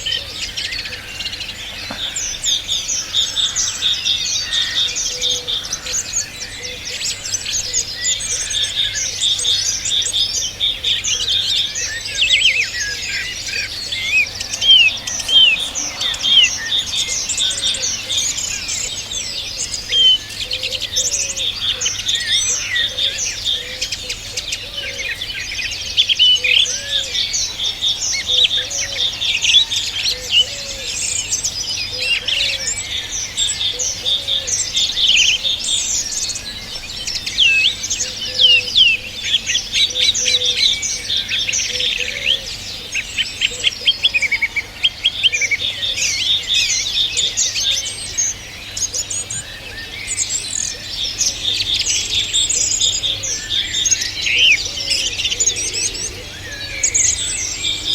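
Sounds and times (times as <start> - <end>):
birds singing and chirping: 0.0 - 57.9.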